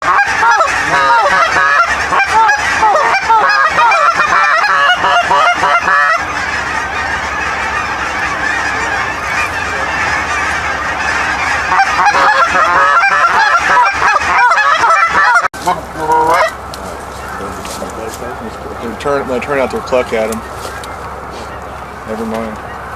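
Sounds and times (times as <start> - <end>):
geese honking: 0.0 - 22.9.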